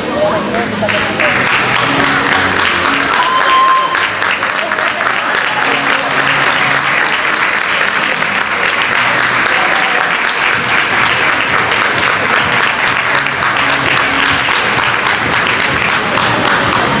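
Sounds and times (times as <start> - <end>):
audience clapping: 0.5 - 17.0.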